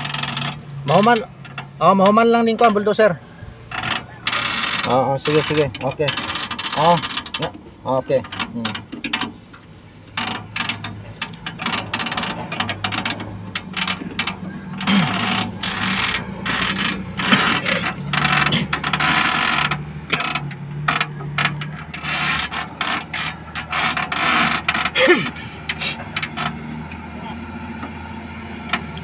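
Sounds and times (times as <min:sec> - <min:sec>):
ratcheting wrench clicking: 0:03.7 - 0:27.1.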